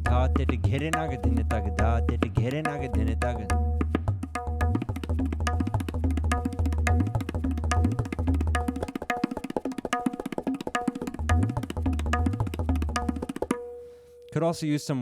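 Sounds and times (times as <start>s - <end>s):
deep sliding tabla bass: 0.0s - 13.8s
tabla ringing strokes: 0.0s - 15.0s.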